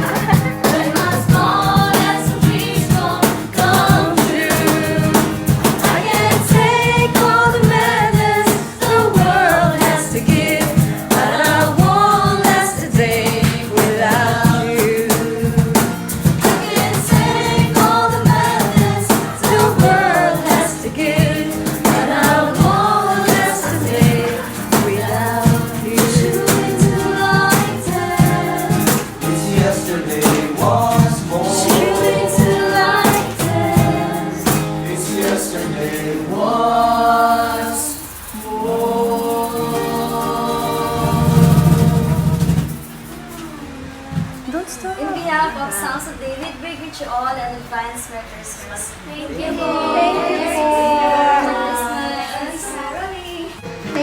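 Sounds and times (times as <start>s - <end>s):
steady beat: 0.0s - 44.6s
instrumental accompaniment: 0.0s - 44.7s
carolers singing: 0.0s - 46.3s, 48.9s - 54.0s.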